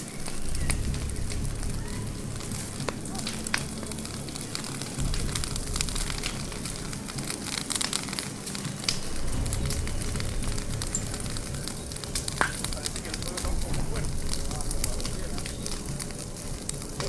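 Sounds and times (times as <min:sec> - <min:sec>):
low rumble: 0:00.0 - 0:17.0
wildfire crackling with pops and snaps: 0:00.0 - 0:17.0.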